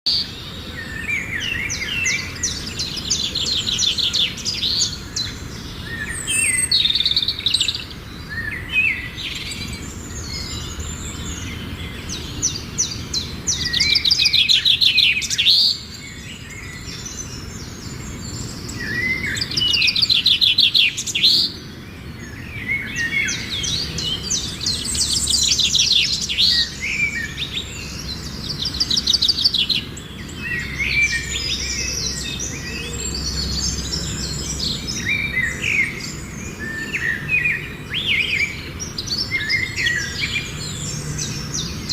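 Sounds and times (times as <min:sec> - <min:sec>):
songbirds trilling: 0:00.1 - 0:41.9.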